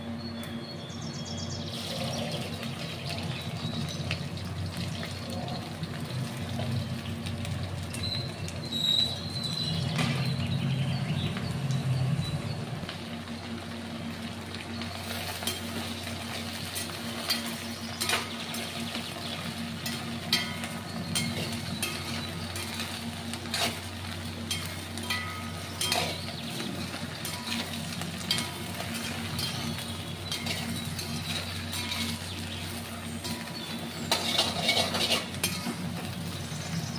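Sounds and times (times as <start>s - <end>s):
steady low hum: 0.0s - 36.9s
food frying in a pan: 1.6s - 36.9s.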